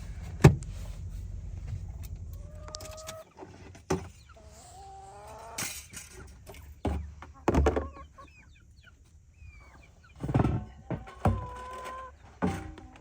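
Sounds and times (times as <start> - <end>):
chickens clucking: 2.0 - 13.0.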